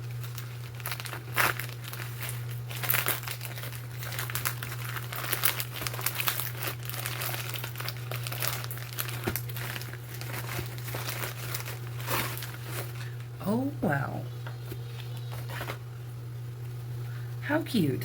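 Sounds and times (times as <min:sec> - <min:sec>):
packaging crinkling: 0:00.0 - 0:13.3, 0:14.4 - 0:15.9
steady low hum: 0:00.0 - 0:18.0.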